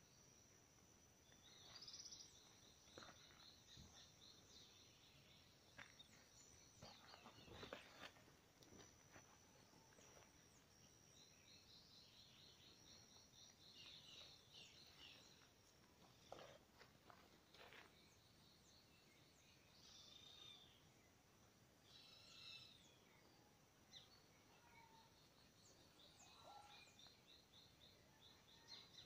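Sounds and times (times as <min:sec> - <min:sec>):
insect drone: 0:00.0 - 0:29.0
bird chirping: 0:01.2 - 0:21.2, 0:21.8 - 0:29.0.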